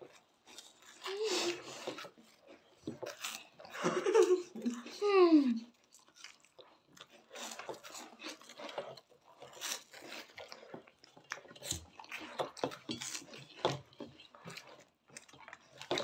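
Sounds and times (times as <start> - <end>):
people crunching and chewing: 0.0 - 16.0.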